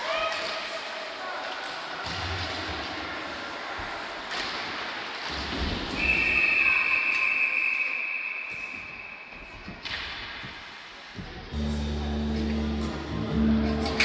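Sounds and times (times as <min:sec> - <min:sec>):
ice rink noise: 0:00.0 - 0:14.0.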